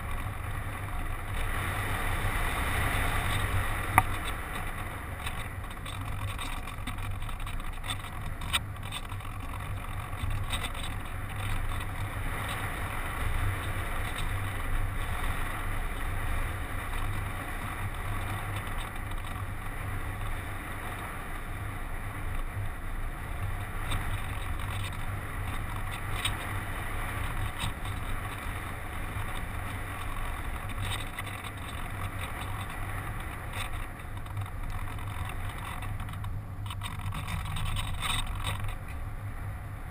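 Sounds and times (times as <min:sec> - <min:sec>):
constant low hum: 0:00.0 - 0:39.9.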